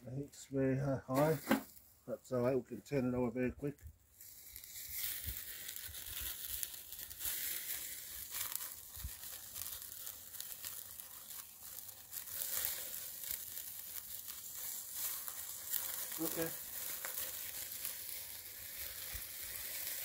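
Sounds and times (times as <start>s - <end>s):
fish sizzling over charcoal: 1.2s - 1.9s, 3.9s - 20.0s.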